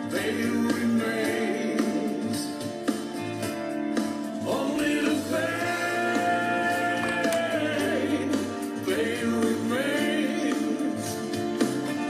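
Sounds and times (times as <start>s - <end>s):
person singing: 0.0s - 2.7s, 4.3s - 12.0s.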